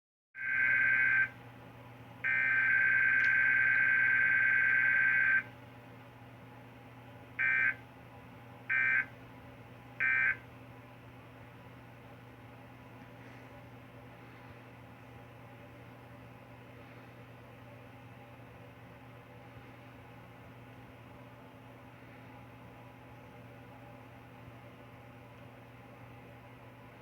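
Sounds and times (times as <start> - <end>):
low electrical hum: 0.4 - 27.0.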